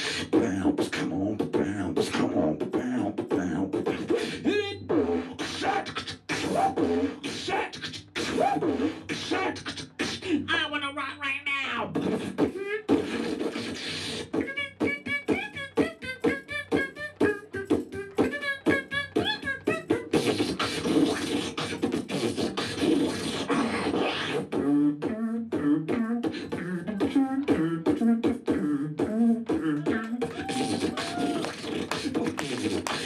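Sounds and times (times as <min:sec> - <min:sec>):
beatboxing drum-like hits: 0:00.0 - 0:10.5, 0:11.9 - 0:33.0.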